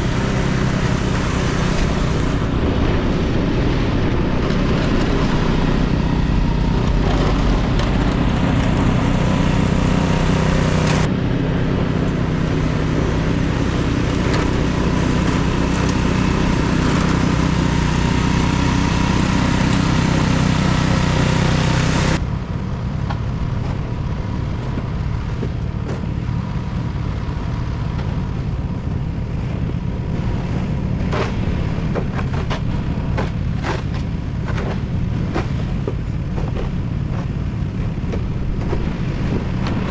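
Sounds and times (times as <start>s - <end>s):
vehicle engine running: 0.0s - 39.9s
wind: 0.0s - 39.9s.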